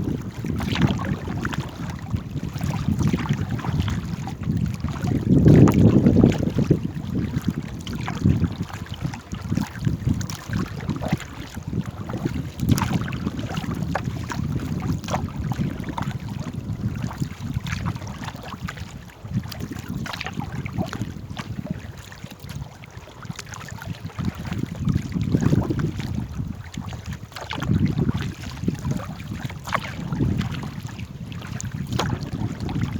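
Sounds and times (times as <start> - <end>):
water splashing around boat: 0.0 - 32.9
wind buffeting microphone: 0.0 - 32.9.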